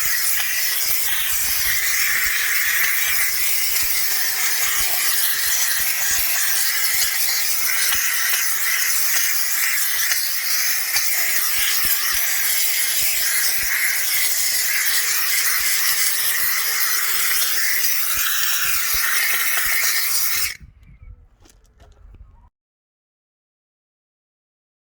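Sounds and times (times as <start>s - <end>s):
steam cleaner hissing: 0.0s - 20.6s.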